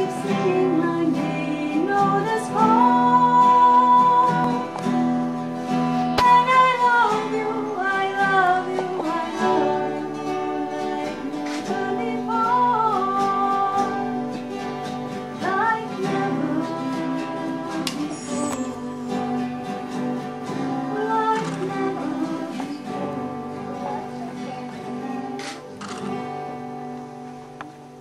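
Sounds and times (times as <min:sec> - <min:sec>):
person singing: 0:00.0 - 0:25.7
acoustic guitar: 0:00.0 - 0:28.0.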